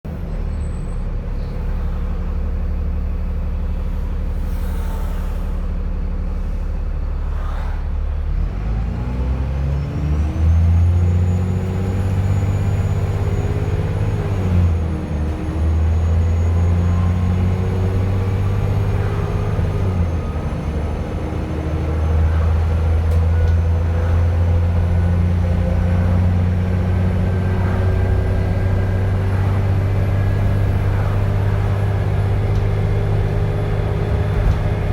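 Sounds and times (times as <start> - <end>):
bus engine accelerating: 0.1 - 34.9.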